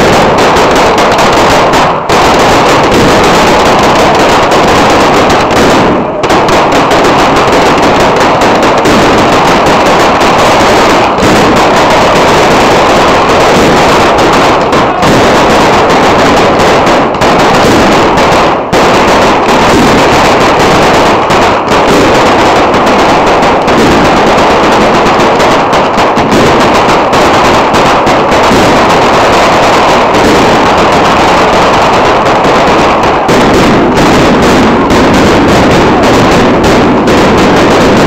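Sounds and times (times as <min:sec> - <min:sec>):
firecrackers crackling: 0:00.0 - 0:38.0.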